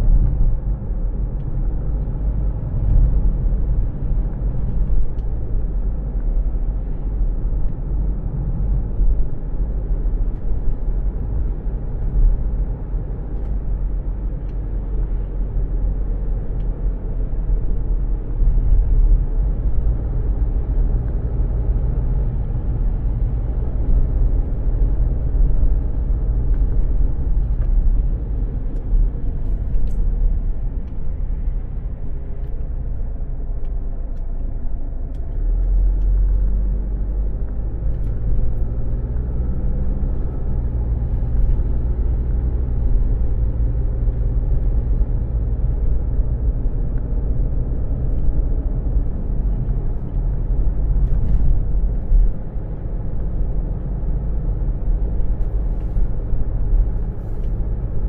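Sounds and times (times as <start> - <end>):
car cabin rumble: 0.0 - 58.0
faint engine hum: 0.0 - 58.0.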